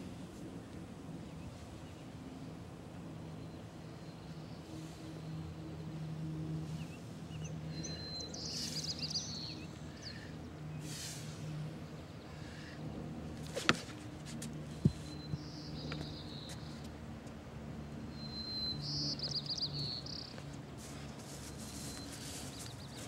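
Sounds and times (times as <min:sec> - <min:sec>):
steady low hum: 0:00.0 - 0:23.0
birds chirping: 0:01.2 - 0:17.0, 0:18.0 - 0:23.0.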